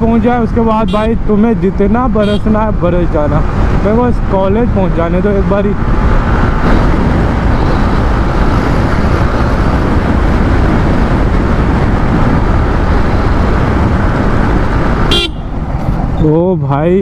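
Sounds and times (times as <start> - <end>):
road noise: 0.0 - 17.0
wind rush: 0.0 - 17.0.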